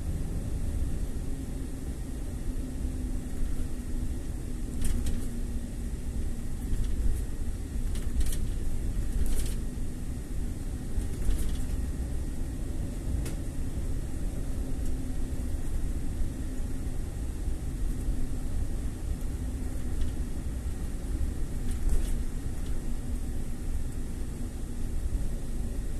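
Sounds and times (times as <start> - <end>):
car engine and road noise: 0.0 - 25.9
faint hum: 0.0 - 25.9.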